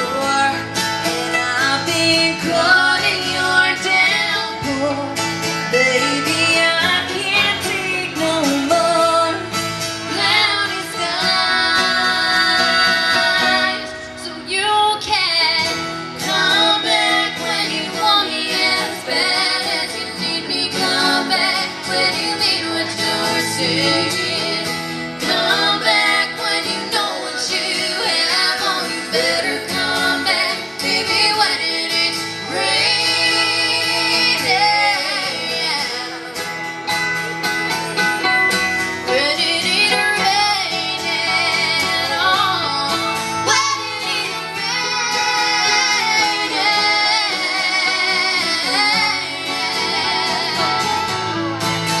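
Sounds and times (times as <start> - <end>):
acoustic guitar: 0.0 - 52.0
band accompaniment: 0.0 - 52.0
women singing country song: 0.0 - 52.0.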